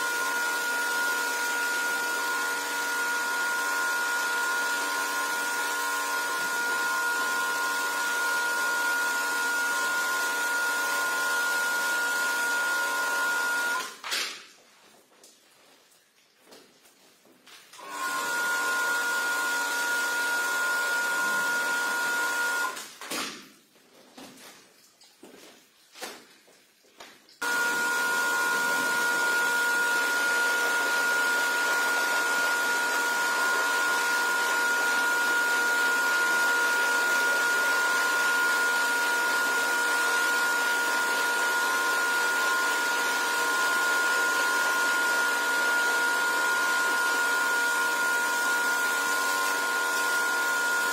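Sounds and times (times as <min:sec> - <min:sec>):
carpet cleaner motor whining: 0:00.0 - 0:13.9, 0:17.8 - 0:22.8, 0:27.4 - 0:50.9.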